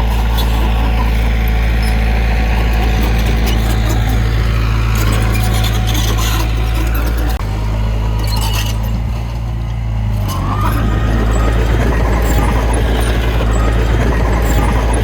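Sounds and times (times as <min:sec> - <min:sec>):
heavy diesel engine drone: 0:00.0 - 0:15.0.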